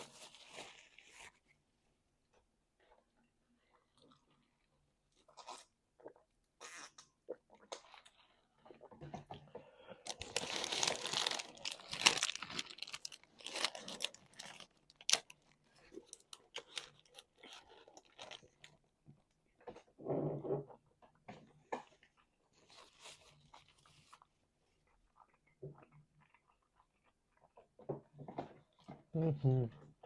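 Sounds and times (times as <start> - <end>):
person chewing and crunching food: 0.1 - 1.6, 2.9 - 18.9, 20.7 - 29.1.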